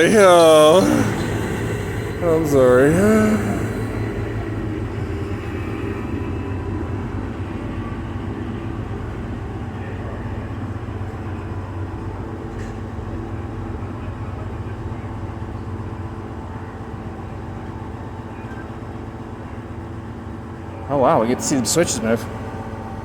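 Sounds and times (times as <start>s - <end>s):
train diesel engine humming: 0.0s - 23.0s.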